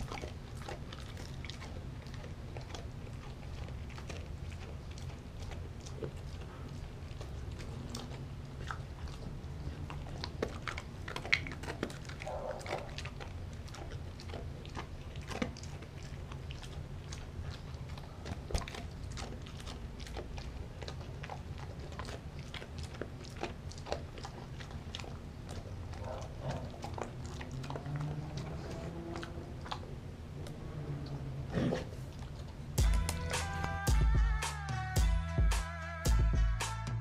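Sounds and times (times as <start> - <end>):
dog chewing and crunching food: 0.0 - 35.0.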